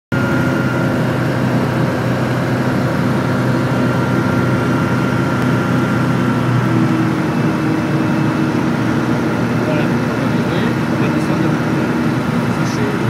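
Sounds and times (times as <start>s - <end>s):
aeroplane engine and propeller droning: 0.1s - 13.0s.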